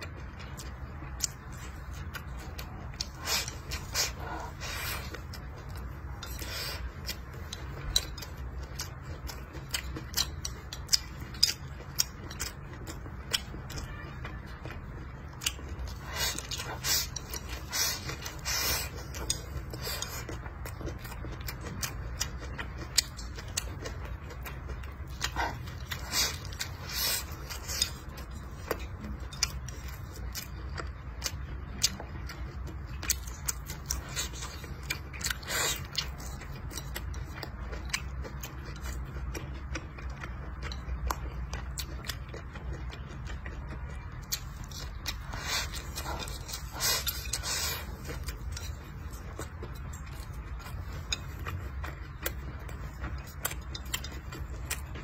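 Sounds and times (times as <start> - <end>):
low steady hum: 0.0 - 55.0
wet chewing and lip smacks: 0.0 - 55.0.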